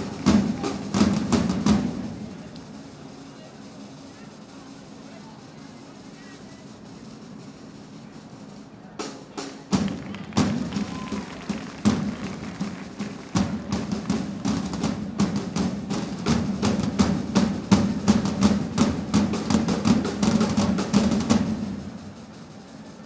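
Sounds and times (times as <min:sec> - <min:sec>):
side drums playing march rhythm: 0:00.0 - 0:23.0.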